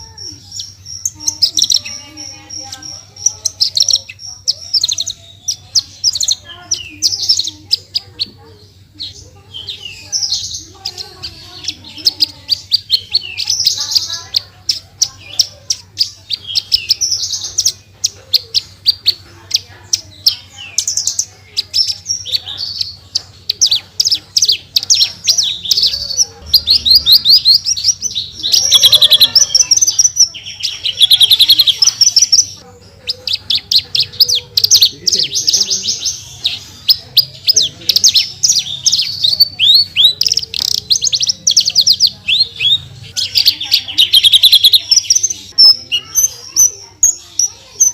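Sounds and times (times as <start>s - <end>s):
lark singing fast chirps and trills: 0.0s - 47.9s.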